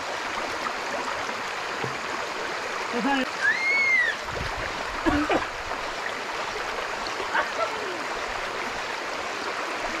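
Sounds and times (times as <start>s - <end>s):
creek water flowing over rocks: 0.0s - 10.0s.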